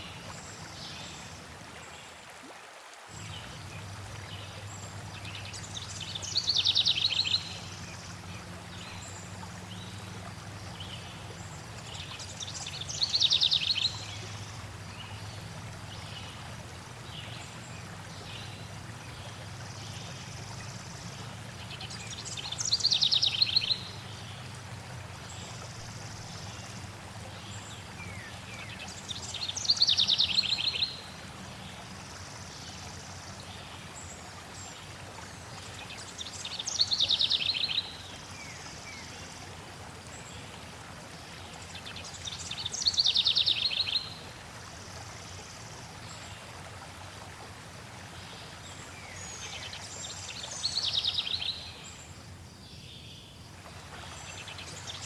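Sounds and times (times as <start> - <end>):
flowing stream water: 0.0 - 55.0
songbird singing: 3.2 - 24.6, 25.2 - 34.8, 35.4 - 39.4, 41.4 - 44.3, 48.1 - 55.0.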